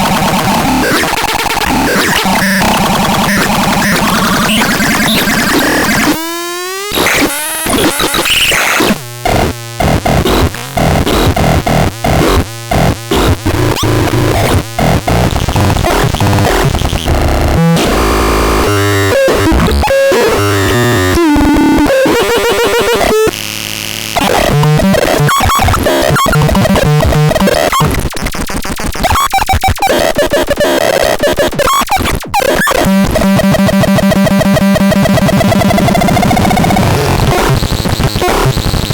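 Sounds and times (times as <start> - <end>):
harsh synthesizer tones: 0.0 - 28.3, 29.1 - 38.7.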